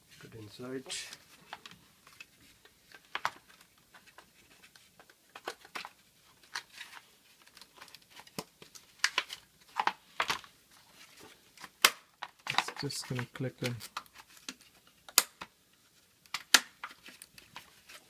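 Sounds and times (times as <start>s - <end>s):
crinkly rustling: 0.1s - 15.1s, 15.7s - 18.0s.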